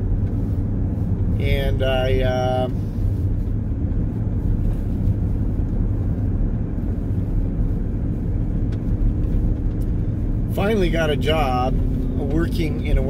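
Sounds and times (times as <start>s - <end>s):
truck cab road rumble: 0.0s - 13.0s.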